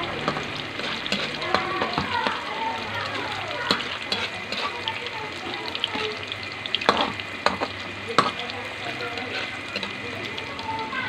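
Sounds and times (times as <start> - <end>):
tofu sizzling in hot oil: 0.0 - 11.0.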